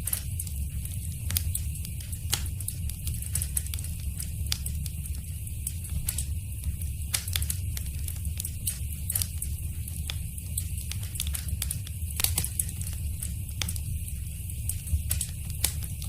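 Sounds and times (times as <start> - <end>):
fire pops and snaps: 0.0 - 16.0
low rumble of flames: 0.0 - 16.0
wood fire crackling: 0.0 - 16.0.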